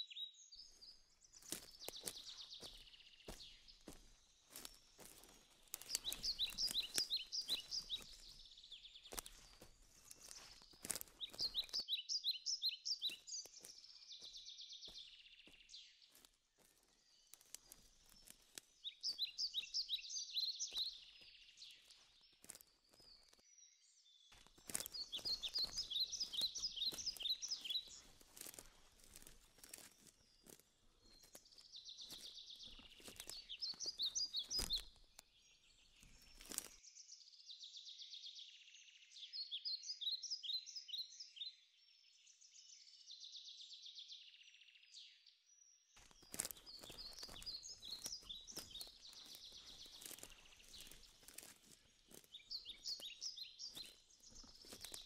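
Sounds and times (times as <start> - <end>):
songbird singing: 0.0 - 55.0
footsteps crunching on twigs: 0.5 - 23.5, 24.2 - 36.8, 46.0 - 55.0.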